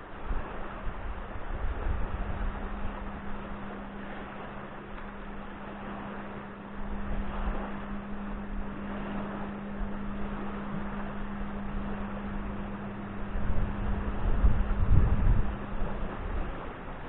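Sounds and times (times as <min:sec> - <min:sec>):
steady low hum: 0:00.0 - 0:17.0
wind buffeting microphone: 0:00.0 - 0:17.0.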